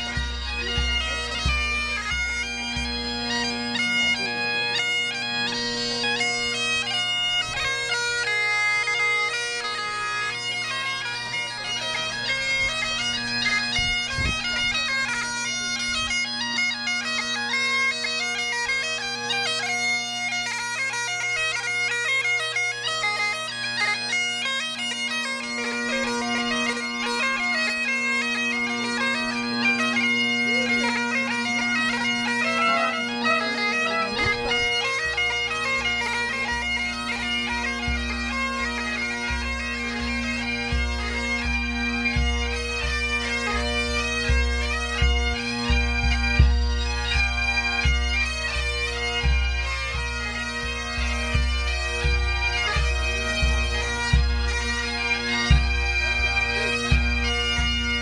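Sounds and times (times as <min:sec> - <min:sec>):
bagpipes playing: 0:00.0 - 0:58.0.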